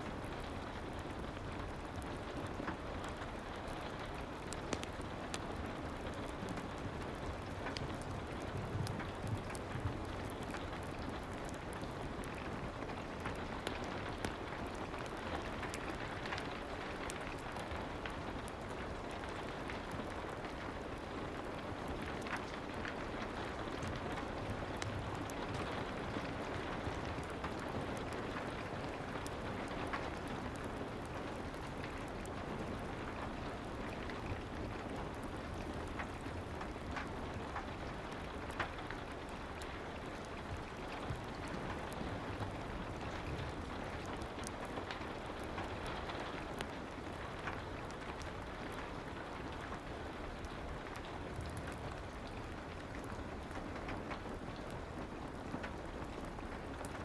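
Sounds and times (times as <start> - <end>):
fireplace crackles: 0.0 - 57.0
soft rain: 0.0 - 57.0.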